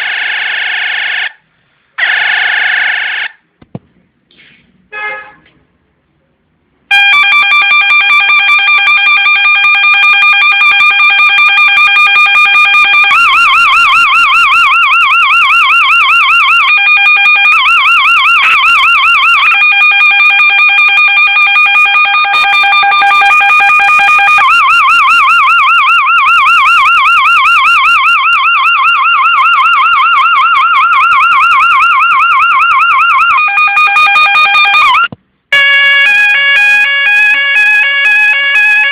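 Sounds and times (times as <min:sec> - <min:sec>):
electronic police siren: 0:00.0 - 0:01.4, 0:02.0 - 0:03.4, 0:06.9 - 0:38.9.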